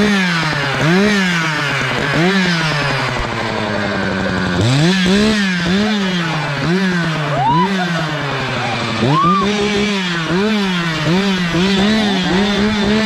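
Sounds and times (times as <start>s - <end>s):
chainsaw revving and idling: 0.0s - 13.0s.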